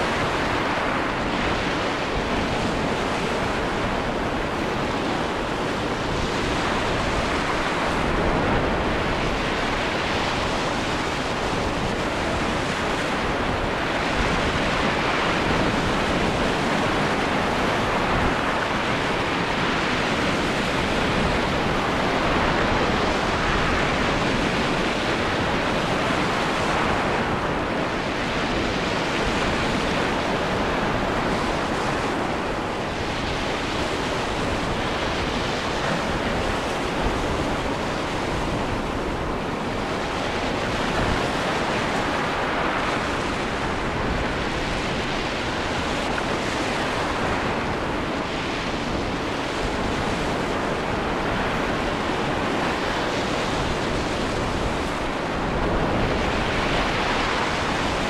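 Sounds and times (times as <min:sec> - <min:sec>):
breaking waves: 0:00.0 - 0:58.0
strong wind: 0:00.0 - 0:58.0.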